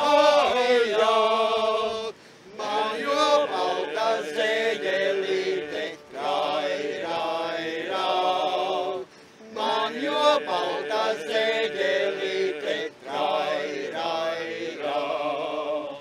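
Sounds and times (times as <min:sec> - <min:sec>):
men singing folk drone chant: 0:00.0 - 0:16.0.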